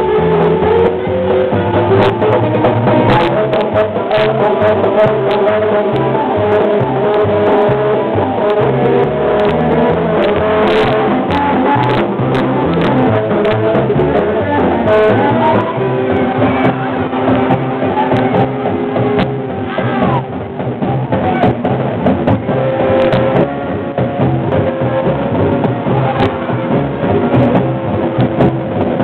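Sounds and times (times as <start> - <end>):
loud music over loudspeakers: 0.0 - 29.0.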